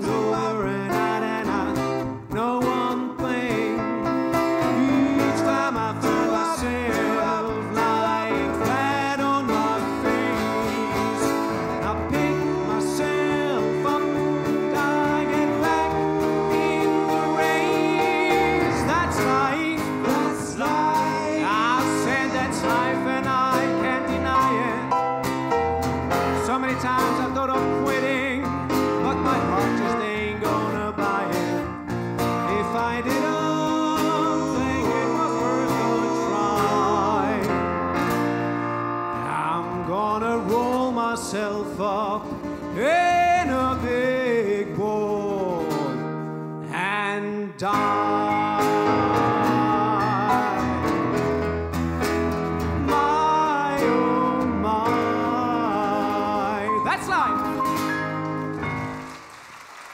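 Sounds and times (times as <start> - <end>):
man singing: 0.0 - 25.5, 26.1 - 38.2, 39.0 - 51.5, 52.6 - 58.2
acoustic guitar: 0.0 - 59.6
grand piano: 0.0 - 59.9.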